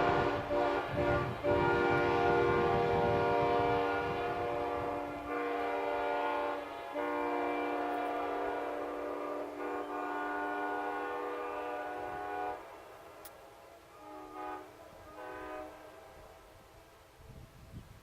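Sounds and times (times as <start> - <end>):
short horn toots: 0.0 - 12.6, 13.9 - 16.3
locomotive air horn chord: 0.0 - 17.5.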